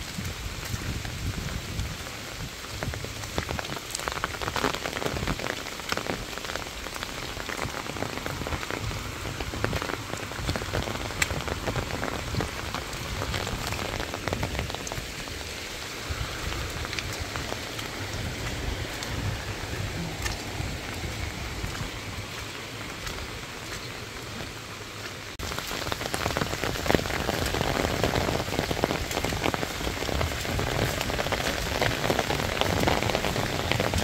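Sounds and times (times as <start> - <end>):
heavy rain on leaves: 0.0 - 34.0
raindrops ticking: 0.0 - 34.0.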